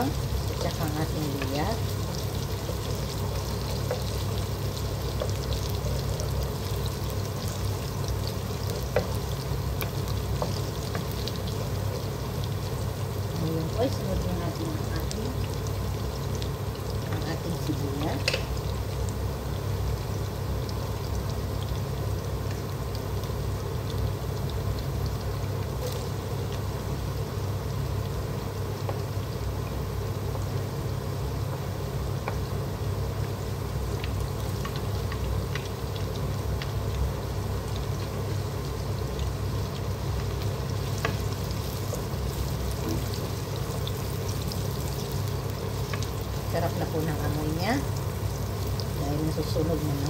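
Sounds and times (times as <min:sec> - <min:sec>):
food sizzling in oil: 0:00.0 - 0:50.0.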